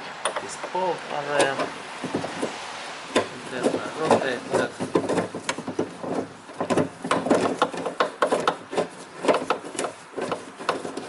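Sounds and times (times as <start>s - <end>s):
metallic scraping: 0.0s - 11.0s.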